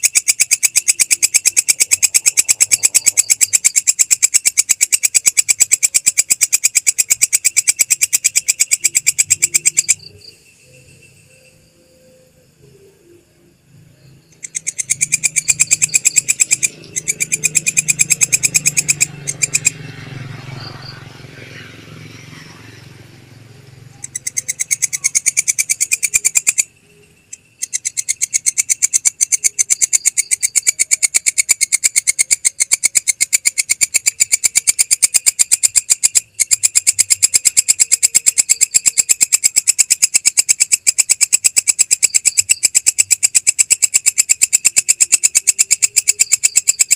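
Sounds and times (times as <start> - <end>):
insect rapid pulsing buzz: 0.0 - 46.9.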